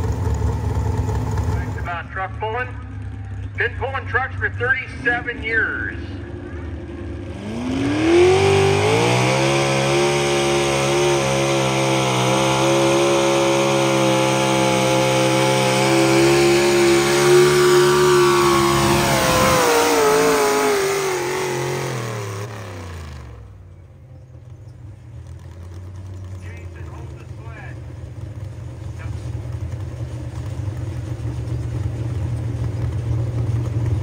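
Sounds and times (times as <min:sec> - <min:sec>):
truck engine at full throttle: 0:00.0 - 0:34.0.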